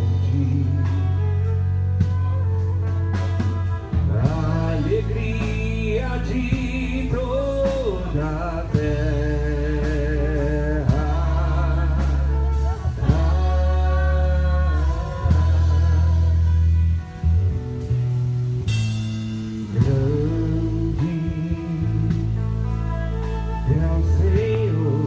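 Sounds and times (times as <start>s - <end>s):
person singing with vibrato: 0.0s - 2.1s, 3.8s - 17.5s, 19.6s - 25.0s
band with heavy bass: 0.0s - 25.0s.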